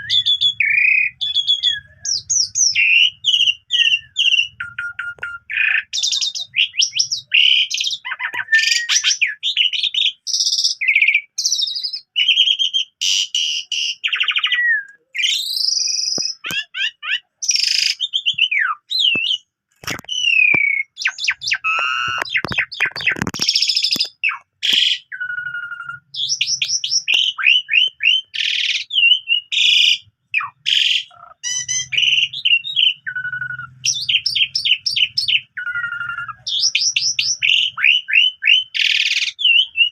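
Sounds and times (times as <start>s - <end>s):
starling singing whistles and trills: 0.0s - 39.9s.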